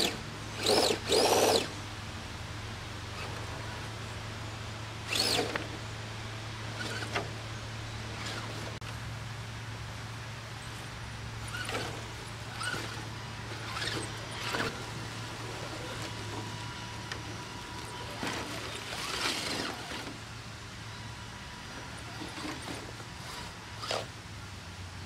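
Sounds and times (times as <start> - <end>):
steady low hum: 0.0 - 25.0
tires crunching dry leaves: 0.0 - 25.0.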